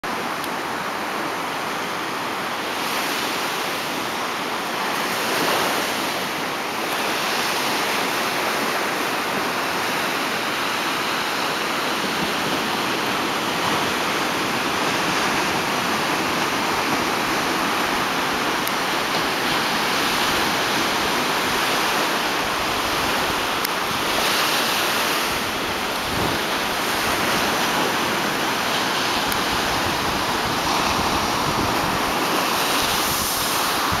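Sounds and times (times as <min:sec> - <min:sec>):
ocean waves breaking on beach: 0:00.1 - 0:34.0.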